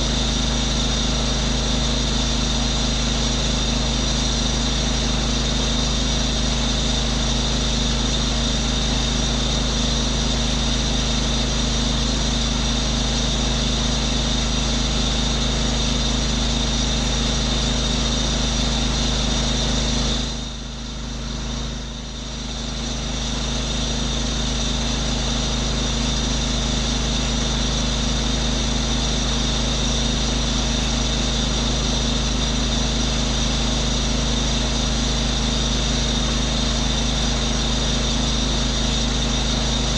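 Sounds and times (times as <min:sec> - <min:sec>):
pressure washer engine and pump: 0:00.0 - 0:39.9.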